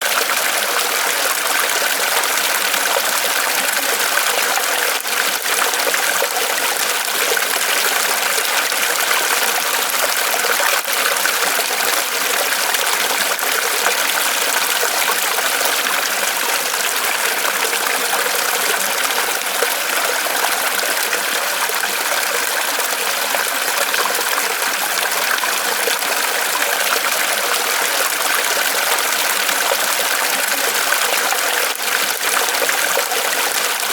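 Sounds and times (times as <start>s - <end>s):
small waterfall trickling: 0.0s - 33.9s.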